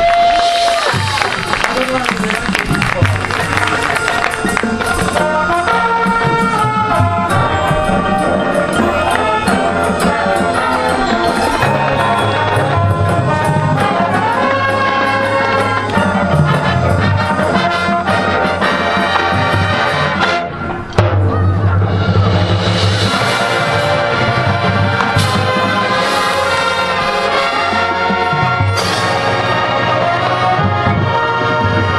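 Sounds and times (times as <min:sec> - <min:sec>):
drumline percussion: 0:00.0 - 0:31.9
loud band hit: 0:00.0 - 0:31.9
brass playing held chords: 0:02.0 - 0:21.0, 0:21.8 - 0:31.9.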